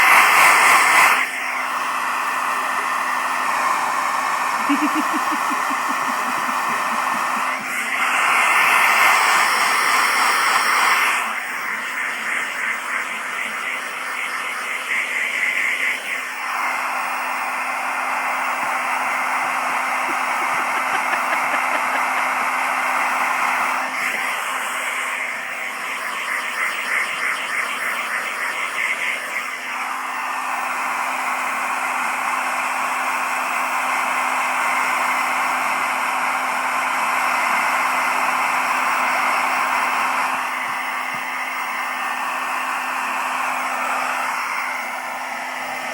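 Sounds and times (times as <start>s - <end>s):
hair dryer blowing: 0.0s - 45.9s.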